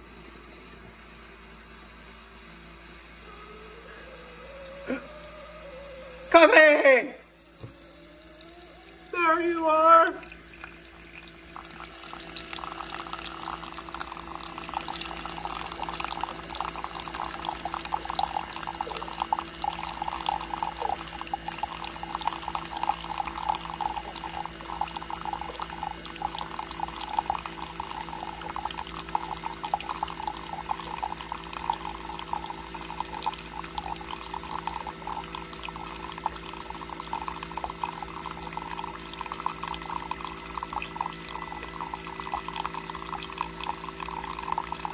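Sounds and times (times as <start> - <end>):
steady low hum: 0.0 - 44.9
coffee pouring into a mug: 7.3 - 44.9.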